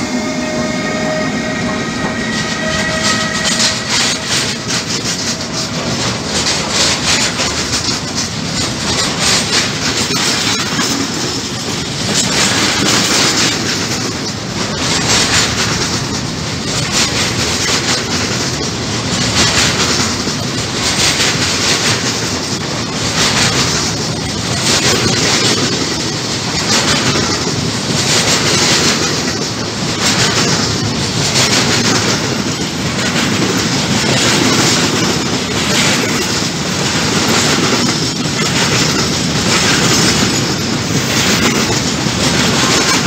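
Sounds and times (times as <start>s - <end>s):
freight train wheels clattering: 0.0s - 43.0s.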